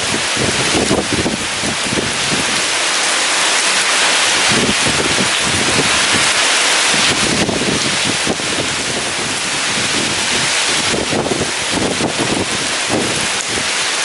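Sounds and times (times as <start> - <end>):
gusting wind rumbles: 0.0 - 14.0
heavy rain hiss: 0.0 - 14.0.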